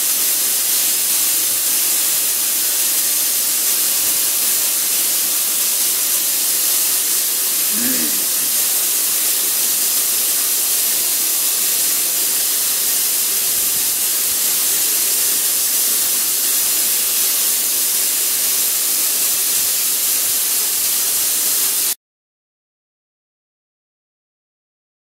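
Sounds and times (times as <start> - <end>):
water jets hissing: 0.0 - 22.0.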